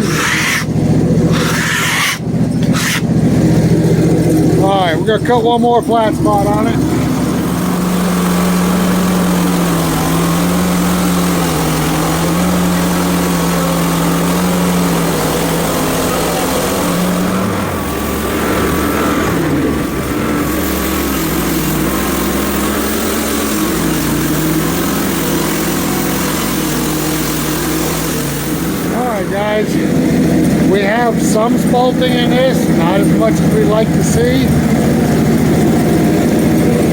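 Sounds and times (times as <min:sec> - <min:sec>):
band sawmill cutting log: 0:00.0 - 0:36.9
gas engine under load: 0:00.0 - 0:36.9.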